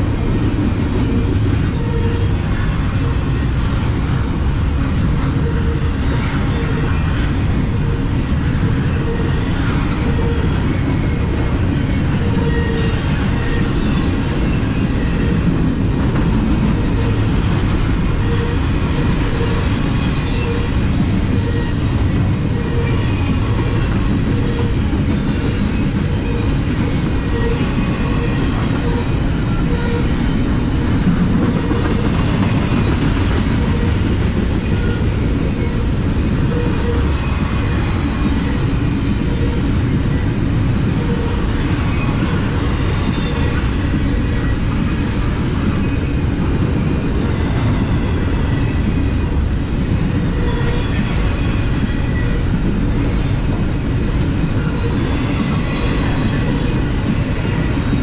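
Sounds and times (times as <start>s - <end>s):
train wheels rumbling and clattering: 0.0s - 58.0s.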